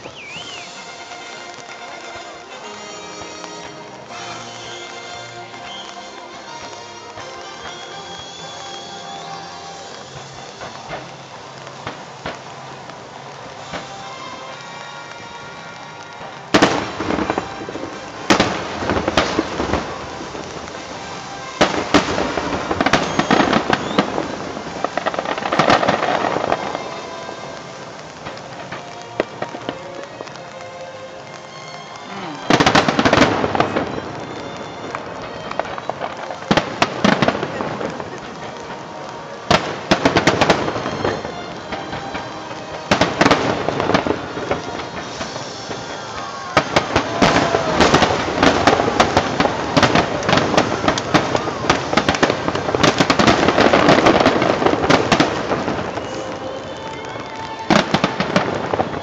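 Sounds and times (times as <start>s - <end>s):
firework booms: 0.0s - 30.4s, 32.2s - 59.0s
continuous din: 0.0s - 59.0s
firework crackling: 0.0s - 59.0s.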